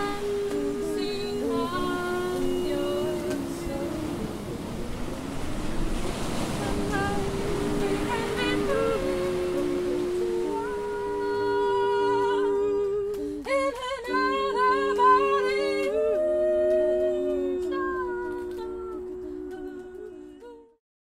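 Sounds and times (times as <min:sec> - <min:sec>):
group singing a cappella: 0:00.0 - 0:20.8.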